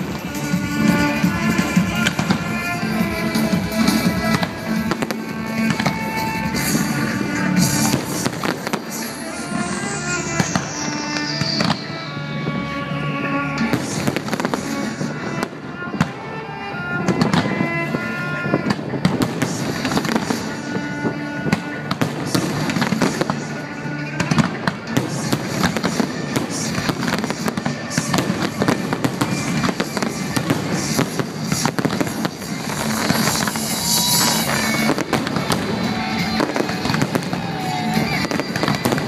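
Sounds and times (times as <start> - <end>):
fireworks bursting and crackling: 0.0 - 39.0
music playing: 0.0 - 39.0.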